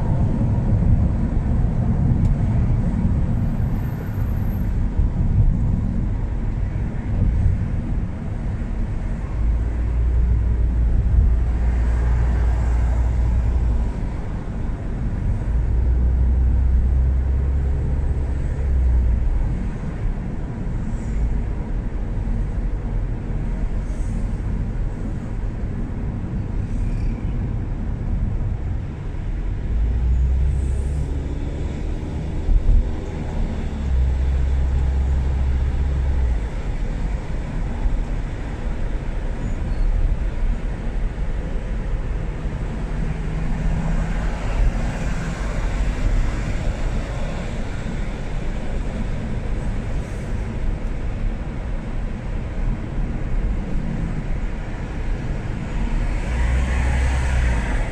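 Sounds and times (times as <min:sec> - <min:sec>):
car engine and road rumble: 0:00.0 - 0:57.9.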